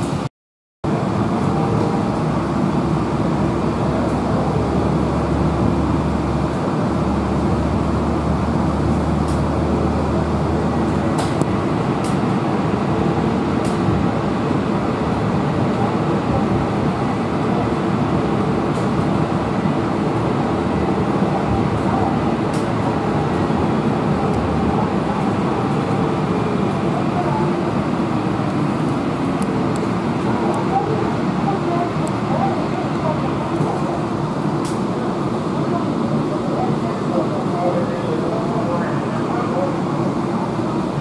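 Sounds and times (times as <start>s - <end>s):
streetcar cabin rumble: 0.0s - 41.0s.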